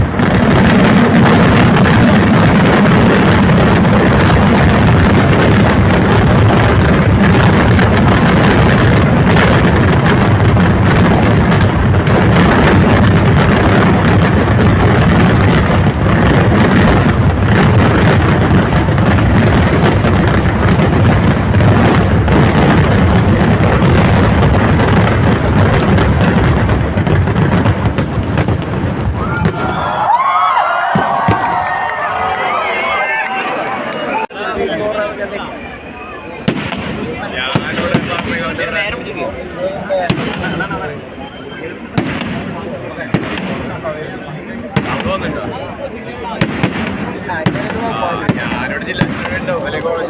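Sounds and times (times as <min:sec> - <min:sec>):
firecrackers crackling: 0:00.0 - 0:50.0.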